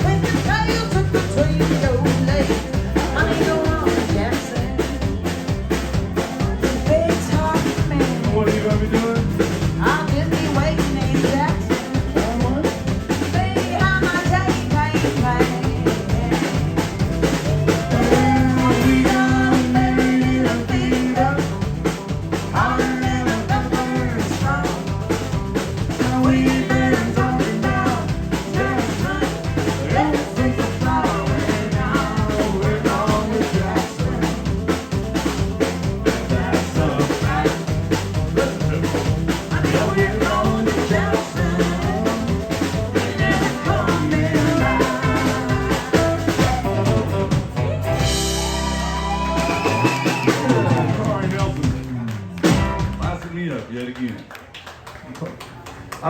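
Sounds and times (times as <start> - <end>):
drum kit rimshots and bass drum: 0.0 - 53.7
country band playing: 0.0 - 54.0.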